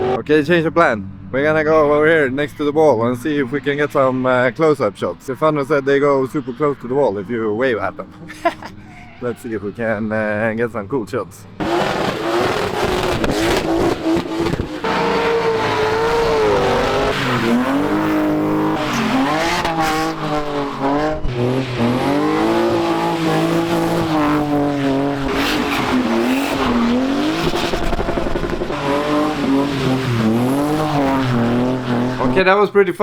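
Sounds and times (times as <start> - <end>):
car engines revving: 0.0 - 33.0
tyres squealing: 3.0 - 32.5.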